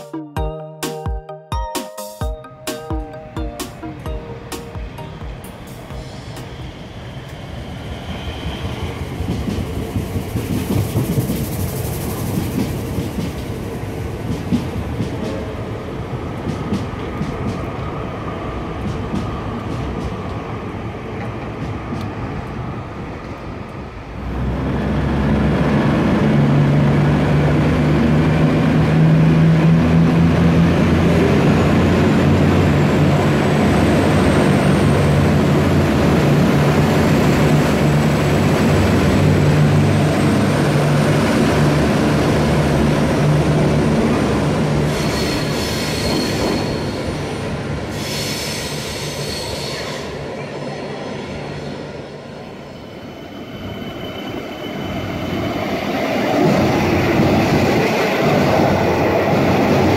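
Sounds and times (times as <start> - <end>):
electric train rumbling past: 2.2 - 59.9
diesel railcar engines droning: 2.7 - 59.9.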